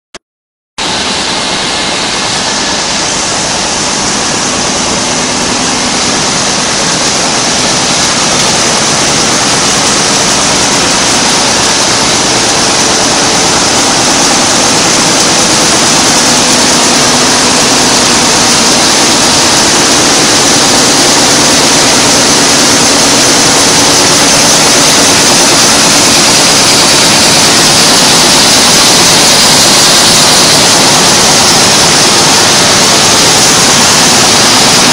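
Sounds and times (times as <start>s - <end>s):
machine running: 0.8s - 34.9s.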